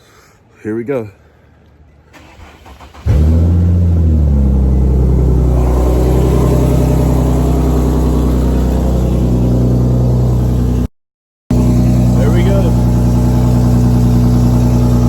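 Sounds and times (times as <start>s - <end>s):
car engine starting and idling: 2.1s - 10.9s, 11.5s - 15.0s.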